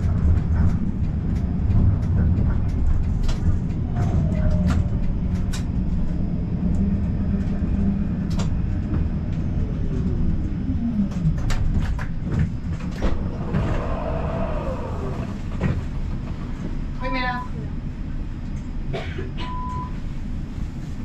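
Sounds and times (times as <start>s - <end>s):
tram motor whine: 0.0s - 20.4s
tram rumbling on rails: 0.0s - 21.0s.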